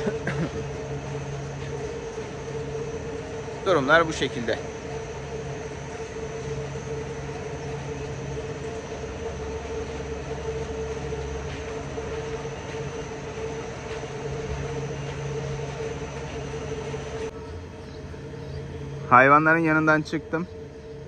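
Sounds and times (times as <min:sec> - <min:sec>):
ceiling fans humming: 0:00.0 - 0:21.0.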